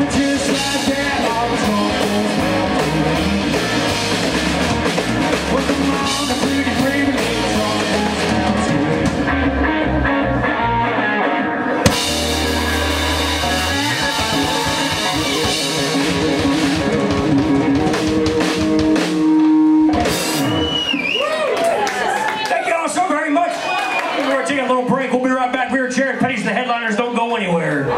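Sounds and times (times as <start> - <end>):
rock band playing: 0.0 - 27.9.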